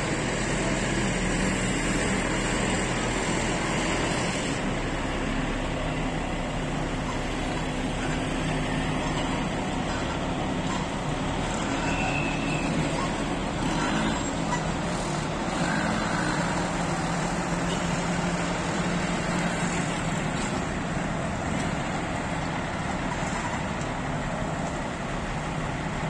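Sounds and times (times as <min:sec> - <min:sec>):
heavy diesel engines drone: 0:00.0 - 0:26.0
road traffic noise: 0:00.0 - 0:26.0.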